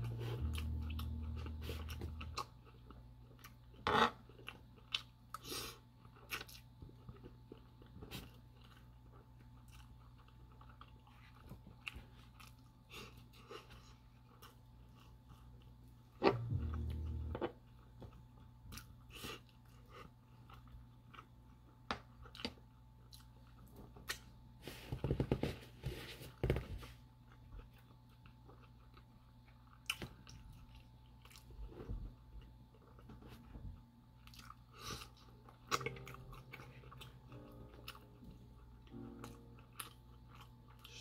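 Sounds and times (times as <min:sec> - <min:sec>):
person chewing food: 0:00.0 - 0:25.4, 0:26.4 - 0:41.0.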